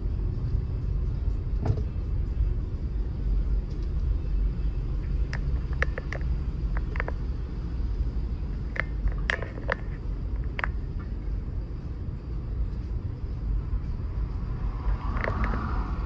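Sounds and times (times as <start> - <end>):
low street rumble: 0.0 - 16.0.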